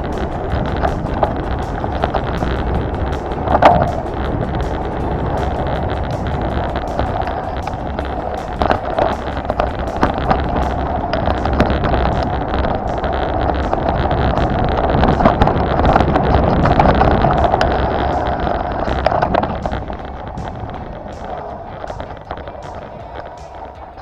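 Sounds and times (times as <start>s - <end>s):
knocks and rattles: 0.0s - 24.0s
vehicle engine and road drone: 0.0s - 24.0s.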